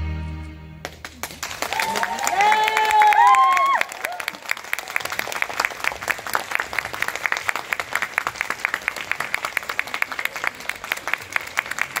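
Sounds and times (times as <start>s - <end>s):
audience applauding: 0.8s - 12.0s
close hands clapping: 0.8s - 12.0s.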